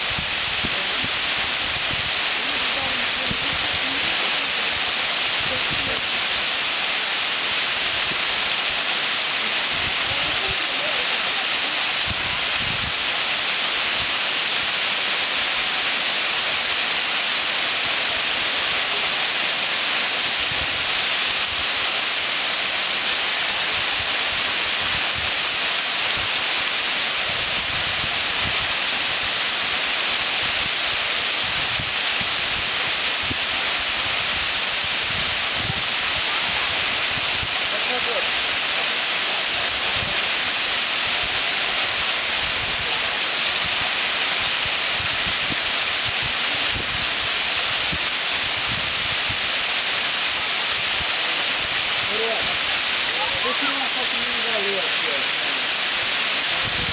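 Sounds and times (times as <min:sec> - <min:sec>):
waterfall pouring onto rock: 0:00.0 - 0:56.9.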